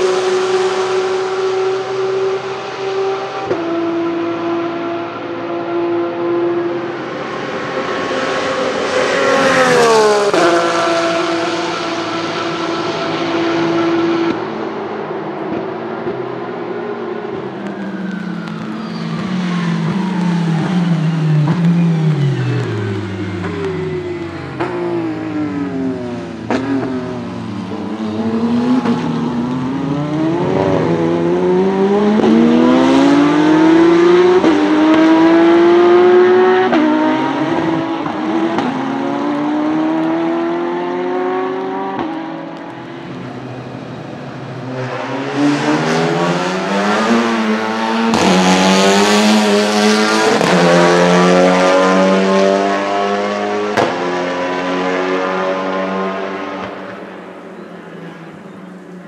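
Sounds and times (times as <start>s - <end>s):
race car engines accelerating: 0.0s - 59.0s.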